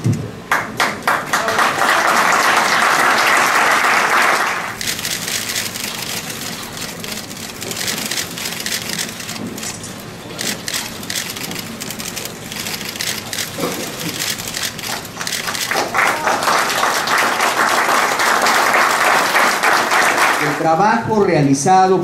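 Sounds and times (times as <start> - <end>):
audience applauding: 0.4 - 9.4, 10.4 - 20.8.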